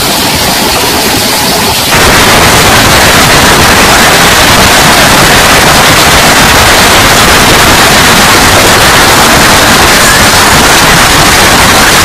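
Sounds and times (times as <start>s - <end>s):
heavy hail clattering: 0.0s - 12.0s.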